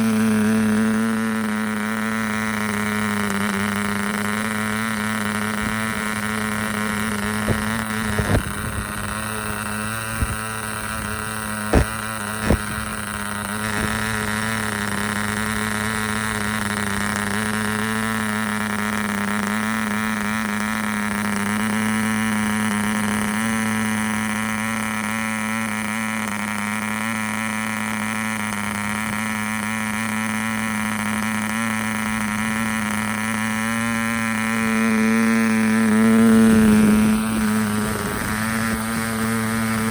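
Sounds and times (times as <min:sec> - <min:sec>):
model engine buzzing drone: 0:00.0 - 0:39.9.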